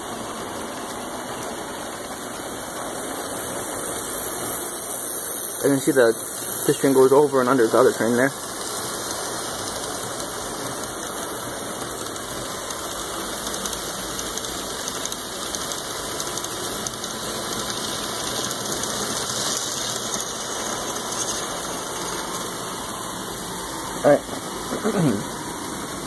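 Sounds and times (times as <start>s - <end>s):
model trains whirring on track: 0.0s - 26.0s.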